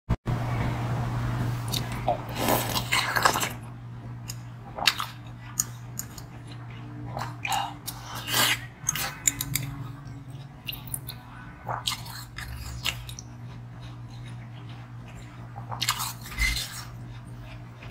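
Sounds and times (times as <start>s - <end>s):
steady low hum: 0.3s - 17.9s.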